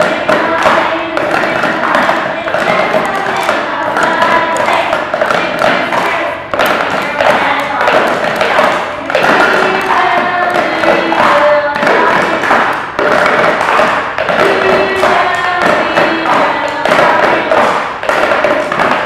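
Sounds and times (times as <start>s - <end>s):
children singing: 0.0s - 18.8s
drumsticks beating on paper cups: 0.0s - 19.0s.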